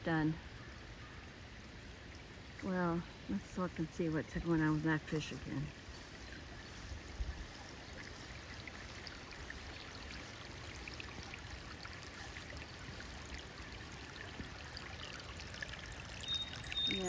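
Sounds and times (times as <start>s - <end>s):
rainwater running and trickling: 1.4s - 17.0s.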